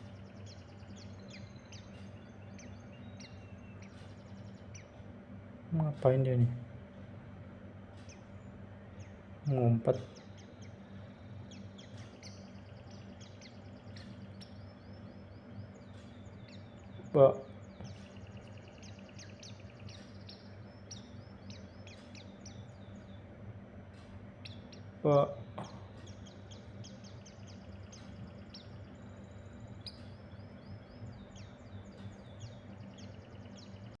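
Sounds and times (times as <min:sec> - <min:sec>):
faint high bird chirps: 0:00.0 - 0:05.1, 0:08.0 - 0:23.3, 0:24.0 - 0:34.0
steady low hum: 0:00.0 - 0:34.0.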